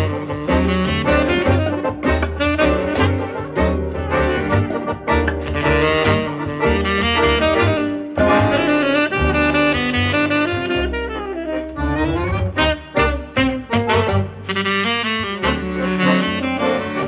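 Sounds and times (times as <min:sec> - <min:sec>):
jazz saxophone lead: 0:00.0 - 0:17.0
walking bass: 0:00.0 - 0:17.0.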